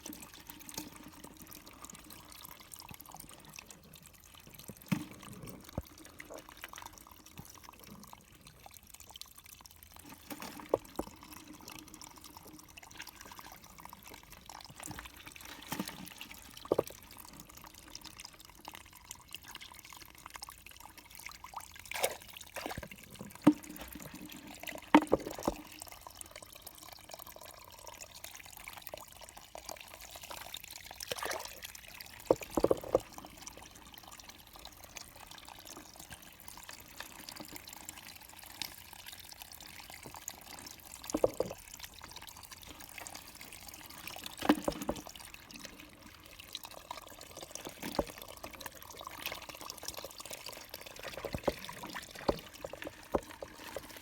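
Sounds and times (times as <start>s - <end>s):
water splashes and drips: 0.0s - 54.0s
water trickling: 0.0s - 54.0s.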